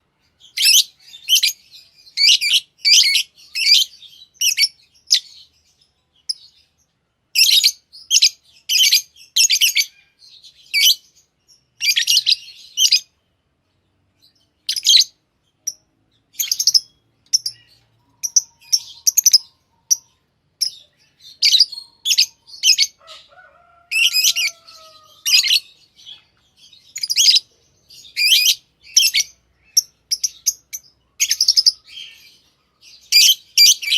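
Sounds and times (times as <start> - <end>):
lovebirds chirping: 0.0 - 33.9.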